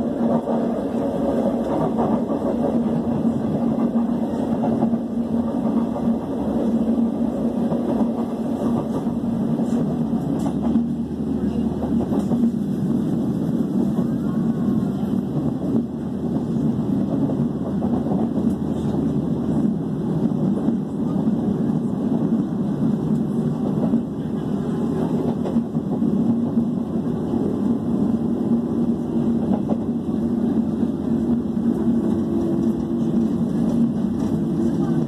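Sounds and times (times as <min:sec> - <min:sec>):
train wheels rumbling on track: 0:00.0 - 0:35.0.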